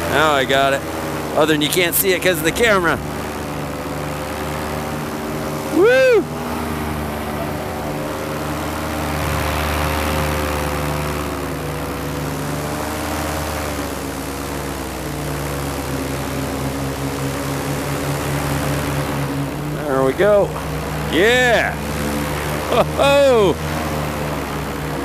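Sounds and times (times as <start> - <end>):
paramotor engine and propeller: 0.0 - 25.0.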